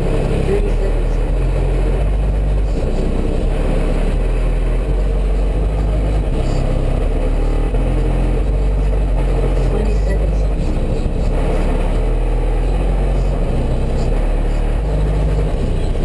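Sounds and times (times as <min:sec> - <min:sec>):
subwoofers playing deep bass: 0:00.0 - 0:16.0.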